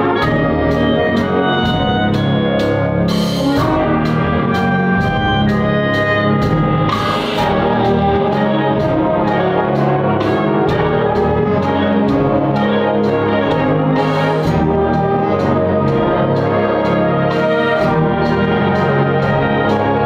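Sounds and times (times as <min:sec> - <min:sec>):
concert band playing: 0:00.0 - 0:20.0
percussion beat: 0:00.0 - 0:20.0.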